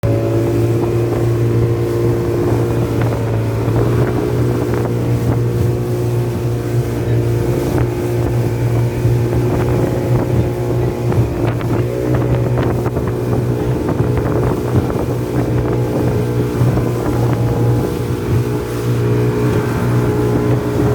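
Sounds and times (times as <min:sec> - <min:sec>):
motorboat engine running: 0:00.0 - 0:20.9
wind buffeting microphone: 0:00.0 - 0:20.9.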